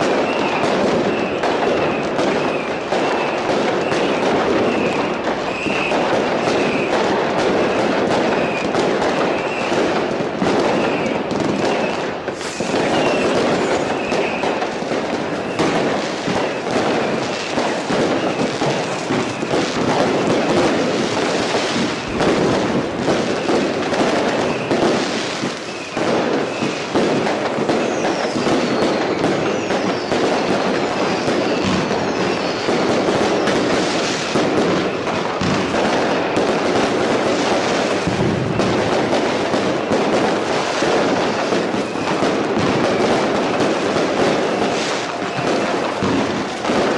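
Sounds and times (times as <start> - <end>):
firework whistles: 0.0 - 46.9
fireworks crackling and banging: 0.0 - 46.9.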